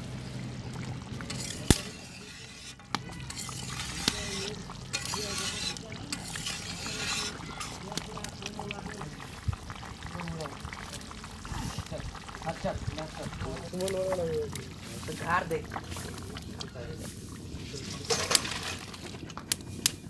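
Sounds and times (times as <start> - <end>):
curry bubbling in a wok: 0.0 - 20.0
faint voices: 0.8 - 18.5.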